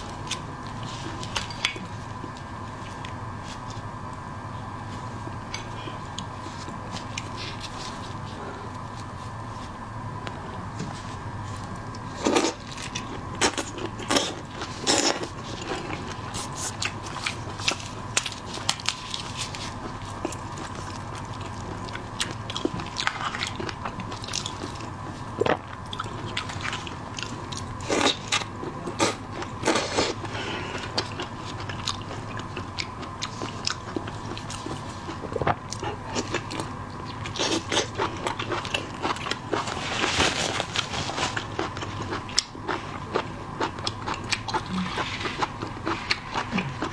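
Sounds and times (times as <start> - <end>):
crunching and chewing food: 0.0 - 46.9.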